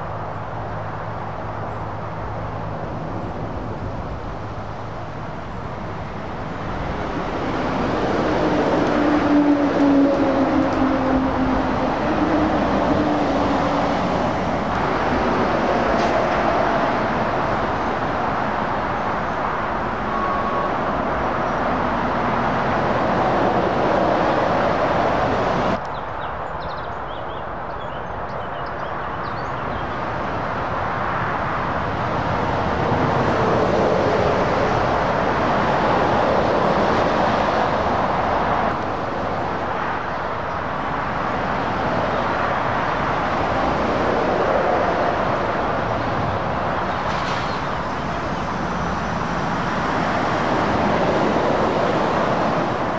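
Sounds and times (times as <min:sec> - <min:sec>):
distant traffic: 0:00.0 - 0:52.9
lorries and cars passing close: 0:00.0 - 0:52.9.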